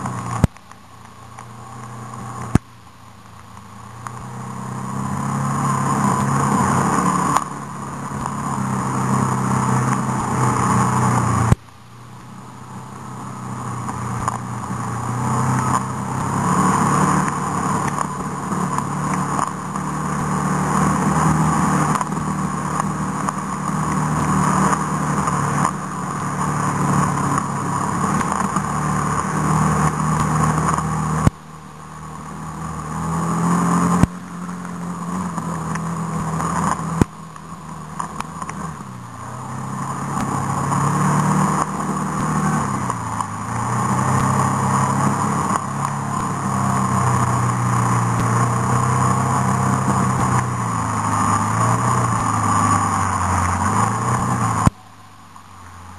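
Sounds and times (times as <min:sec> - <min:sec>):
off-road vehicle engine: 0:00.0 - 0:55.9.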